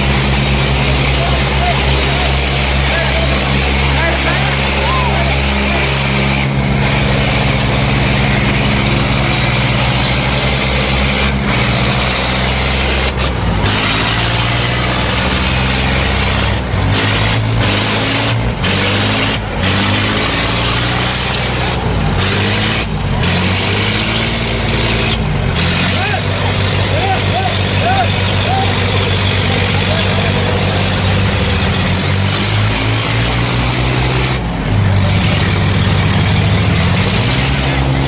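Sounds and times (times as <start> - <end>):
tractor engines running hard: 0.0 - 38.0.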